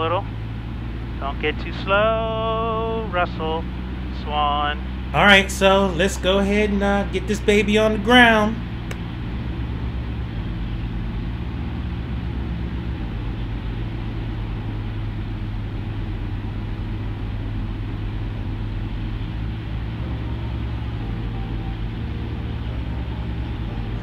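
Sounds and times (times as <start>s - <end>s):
propeller and airflow noise: 0.0s - 24.0s
small plane engine drone: 0.0s - 24.0s.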